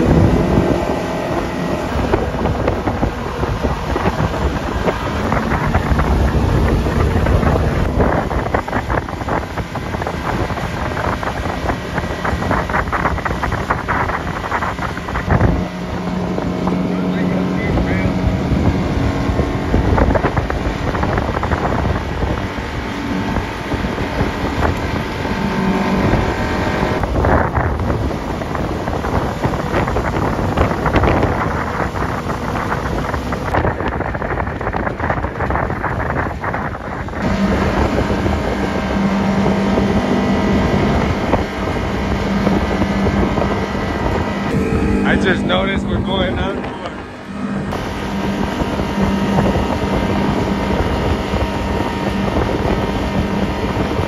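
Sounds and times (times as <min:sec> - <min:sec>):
outboard motor running: 0:00.0 - 0:54.0
rush of water: 0:00.0 - 0:54.0
wind buffeting microphone: 0:00.0 - 0:54.0.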